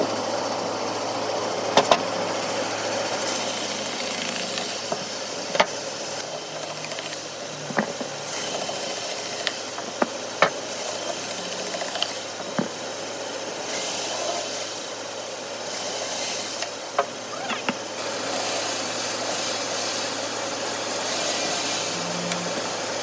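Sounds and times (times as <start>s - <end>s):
woodworking machine humming: 0.0s - 23.0s.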